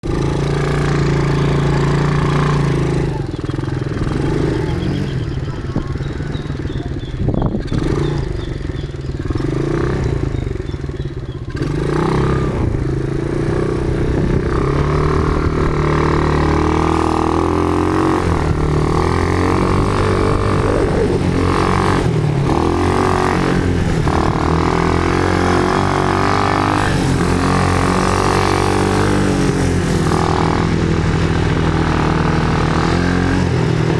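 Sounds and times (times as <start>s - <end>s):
quad bike engines running: 0.0s - 33.9s.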